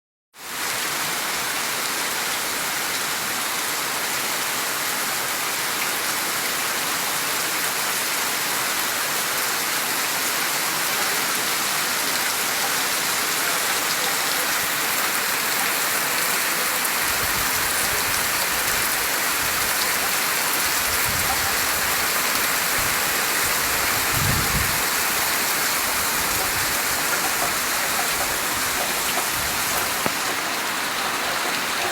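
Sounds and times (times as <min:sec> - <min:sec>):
heavy rain falling: 0:00.4 - 0:31.9.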